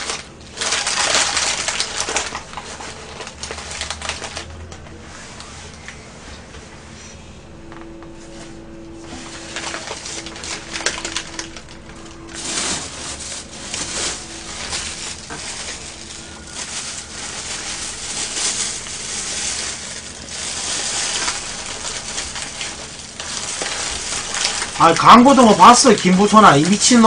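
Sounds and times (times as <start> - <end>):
paper and plastic bags crinkling: 0.0 - 5.8, 9.0 - 27.0.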